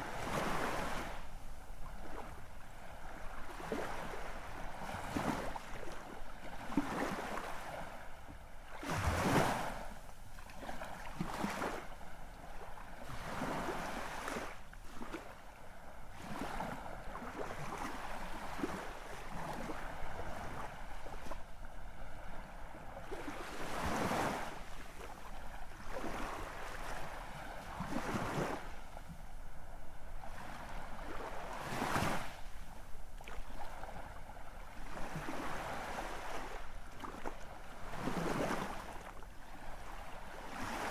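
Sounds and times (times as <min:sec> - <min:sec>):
sea waves breaking: 0:01.9 - 0:40.9.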